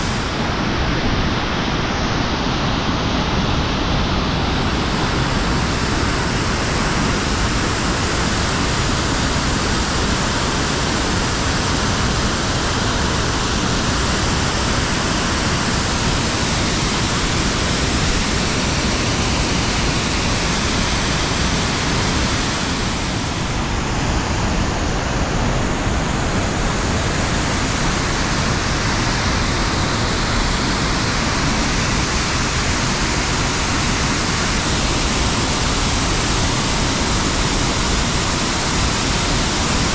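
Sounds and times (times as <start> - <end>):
floodwater rushing through gorge: 0.0 - 39.9.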